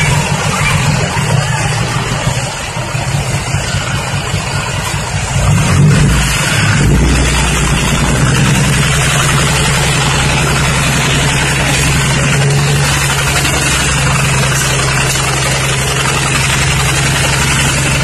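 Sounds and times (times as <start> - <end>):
dump truck diesel engine running: 0.0 - 18.0.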